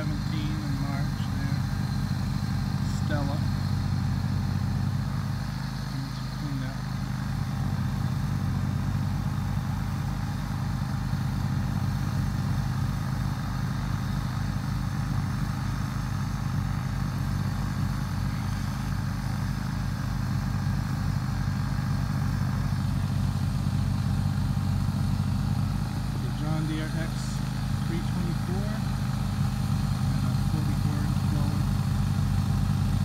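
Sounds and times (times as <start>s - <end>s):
lawn tractor engine running: 0.0s - 33.0s.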